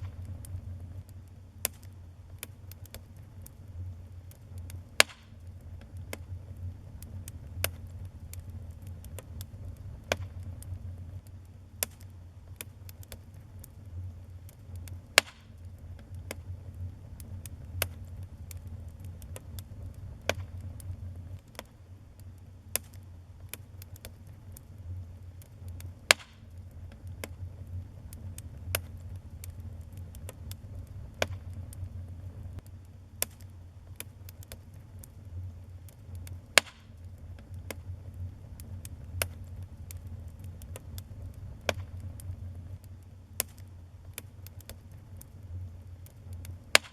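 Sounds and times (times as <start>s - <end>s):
low rumble of flames: 0.0s - 46.9s
wood fire crackling and popping: 0.0s - 46.9s.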